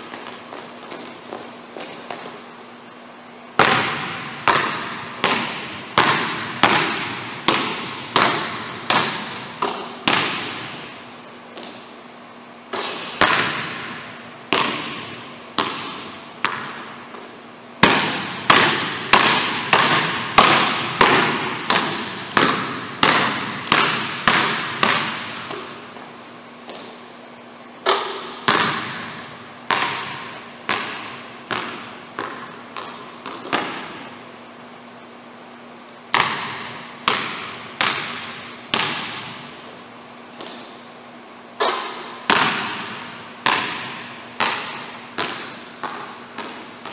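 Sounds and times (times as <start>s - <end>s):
basketball bouncing on hardwood: 0.0s - 2.4s, 3.6s - 10.9s, 11.6s - 11.8s, 12.7s - 25.8s, 26.6s - 27.0s, 27.9s - 34.0s, 36.1s - 39.5s, 40.4s - 40.7s, 41.6s - 46.9s.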